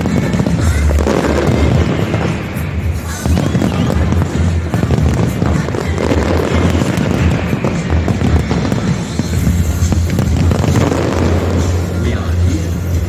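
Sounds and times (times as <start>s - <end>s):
fireworks bangs and crackles: 0.0s - 13.0s
loud music with pulsing bass: 0.0s - 13.0s.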